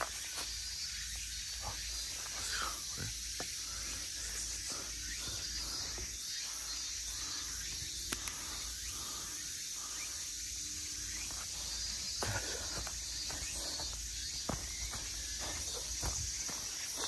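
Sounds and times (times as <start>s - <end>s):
footsteps on trail: 0.0s - 9.3s, 10.7s - 17.0s
high-pitched insect drone: 0.0s - 17.0s.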